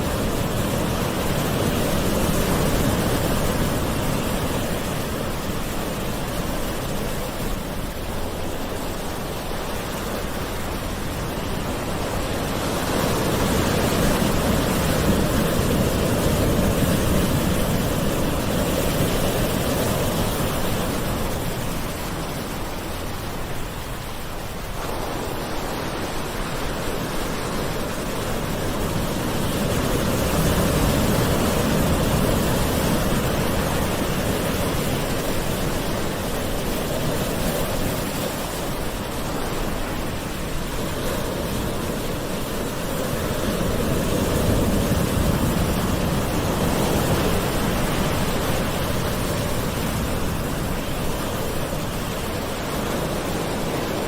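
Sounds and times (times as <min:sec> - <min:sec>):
ocean waves washing on shore: 0:00.0 - 0:54.0.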